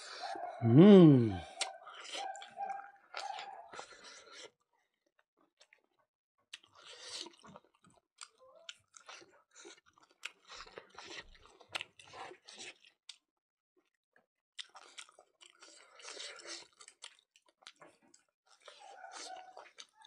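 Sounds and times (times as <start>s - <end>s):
person chewing food: 0.0s - 4.7s, 5.5s - 5.9s, 6.5s - 14.0s, 14.6s - 20.0s.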